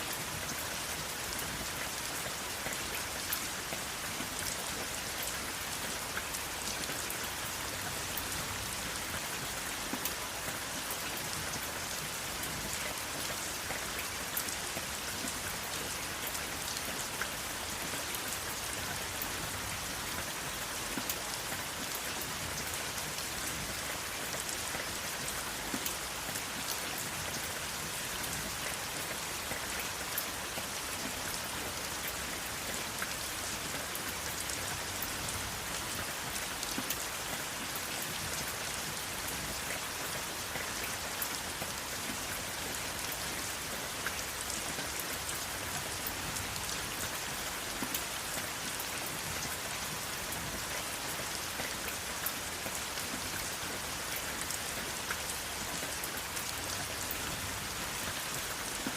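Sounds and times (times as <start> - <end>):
steady rain hissing: 0.0 - 58.9.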